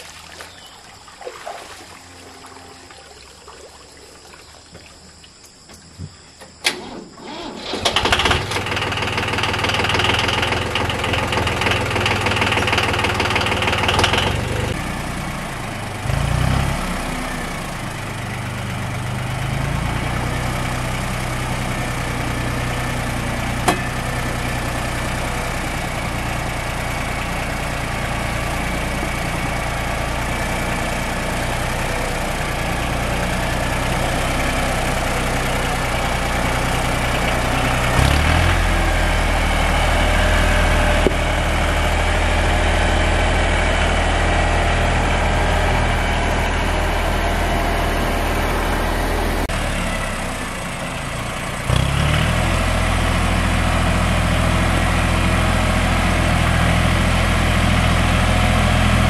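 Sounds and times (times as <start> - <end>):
tractor engine running: 4.6 - 59.0.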